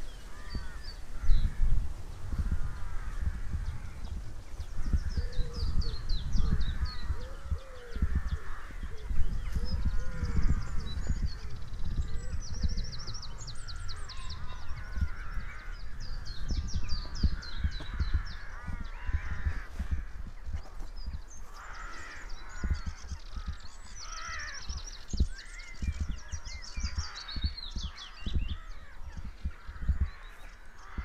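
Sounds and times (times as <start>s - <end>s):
songbirds singing: 0.0s - 31.0s
wind buffeting microphone: 0.0s - 31.0s
crows cawing: 0.2s - 31.0s.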